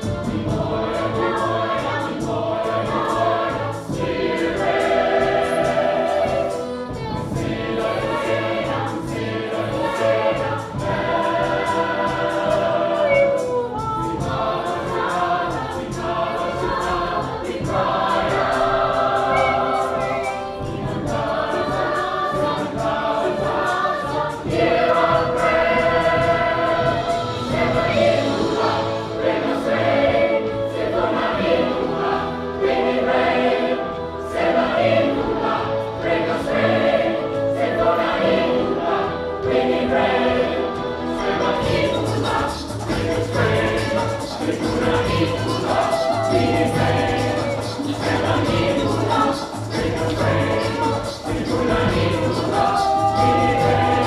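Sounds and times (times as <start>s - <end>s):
opera chorus singing: 0.0s - 54.0s.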